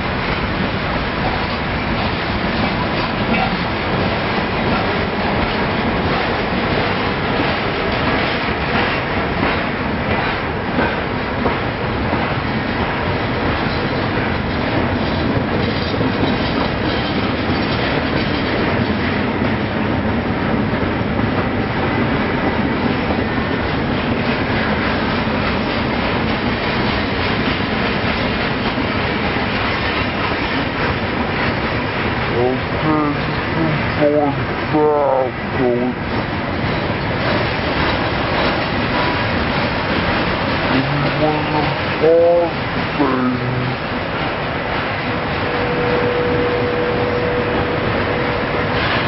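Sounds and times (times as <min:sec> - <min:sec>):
train wheels on rails: 0:00.0 - 0:49.0.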